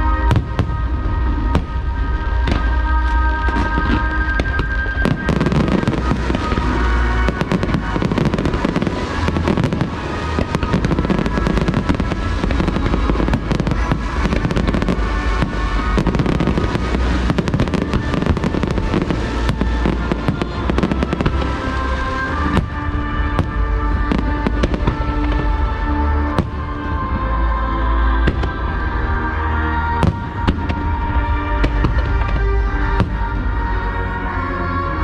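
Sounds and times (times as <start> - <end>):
deep steady rumble: 0.0 - 35.0
music playing: 0.0 - 35.0.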